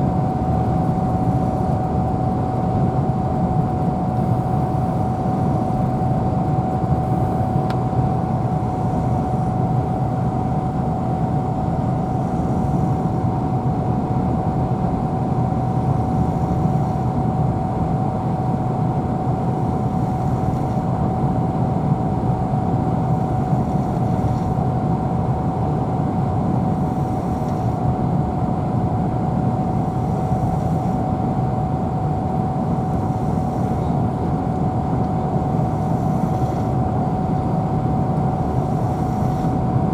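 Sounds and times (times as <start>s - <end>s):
road and engine noise in car: 0.0s - 39.9s
thin steady whine: 0.0s - 39.9s.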